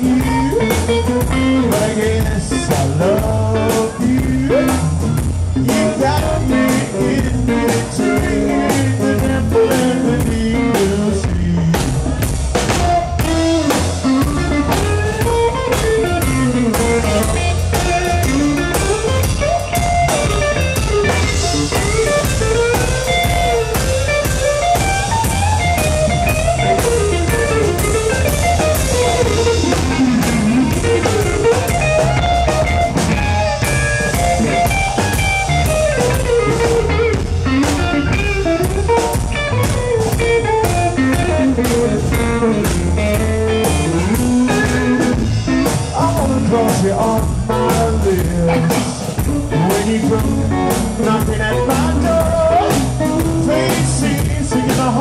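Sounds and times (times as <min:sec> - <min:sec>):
drum kit: 0:00.0 - 0:55.0
twangy electric guitar lead: 0:00.0 - 0:55.0
upright bass: 0:00.0 - 0:55.0.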